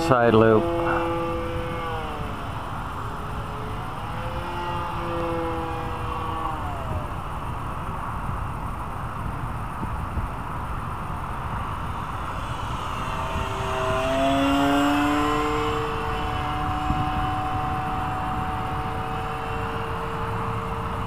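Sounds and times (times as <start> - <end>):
model plane motor whining: 0.0 - 21.0
wind buffeting microphone: 0.0 - 21.0.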